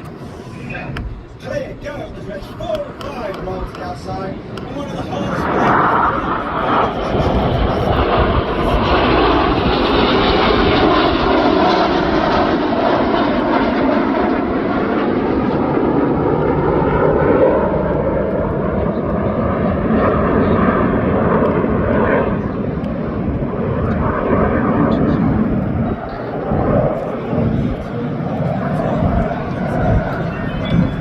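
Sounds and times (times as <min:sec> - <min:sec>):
jets flying by: 0:00.0 - 0:31.0.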